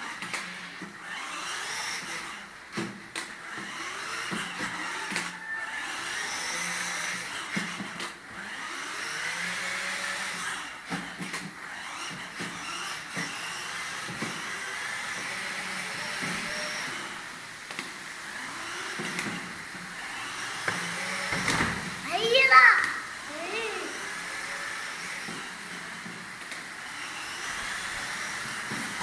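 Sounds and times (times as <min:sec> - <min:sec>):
toy electric motor whirring: 0:00.0 - 0:29.0.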